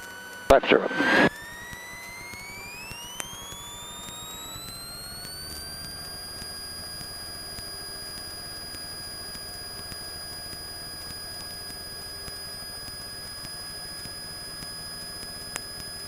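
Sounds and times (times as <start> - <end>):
small plane engine drone: 0.0 - 16.0.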